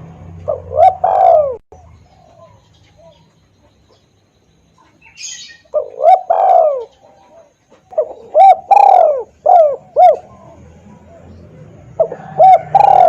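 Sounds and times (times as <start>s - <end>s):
dove cooing: 0.4s - 3.7s, 4.8s - 13.0s.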